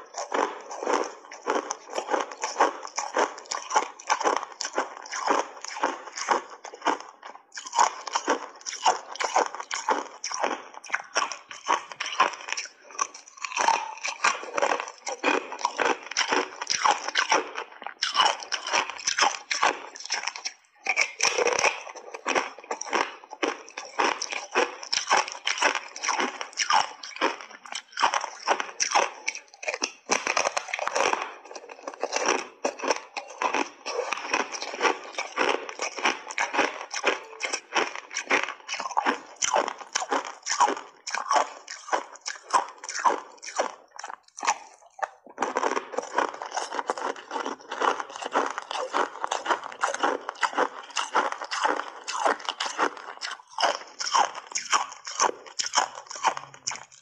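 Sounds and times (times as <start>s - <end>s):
ice crunching being chewed: 0.0s - 57.0s.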